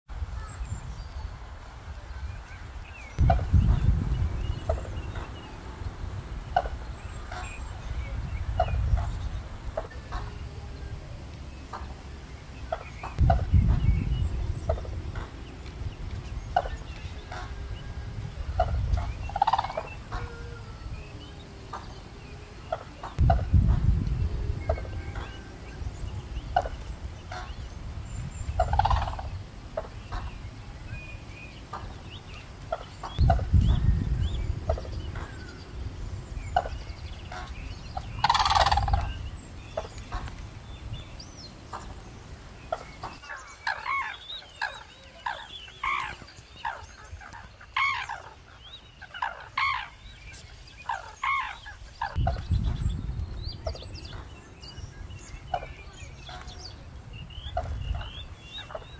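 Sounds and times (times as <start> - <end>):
low rumble: 0.5 - 43.3, 51.9 - 58.9
cranes calling: 2.4 - 52.6, 53.6 - 58.9.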